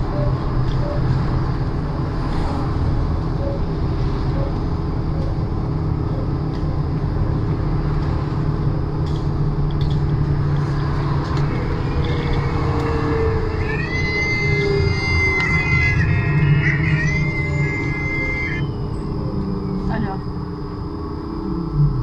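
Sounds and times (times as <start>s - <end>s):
rumble of tyres and running gear: 0.0s - 22.0s.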